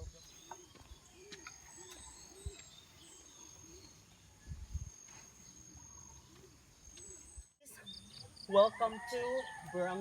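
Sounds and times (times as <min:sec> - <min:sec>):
bird chirps: 0:00.0 - 0:08.6.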